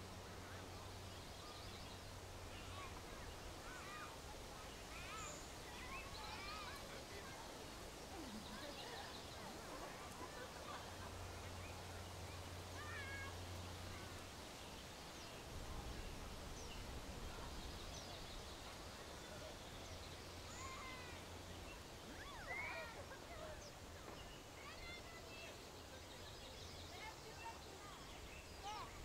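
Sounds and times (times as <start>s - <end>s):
background hiss: 0.0s - 29.0s.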